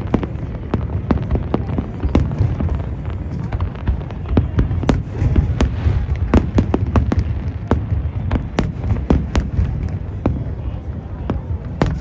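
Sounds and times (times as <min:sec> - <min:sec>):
fireworks cracks and pops: 0:00.0 - 0:10.6, 0:11.3 - 0:12.0
low rumble of booms: 0:00.0 - 0:12.0.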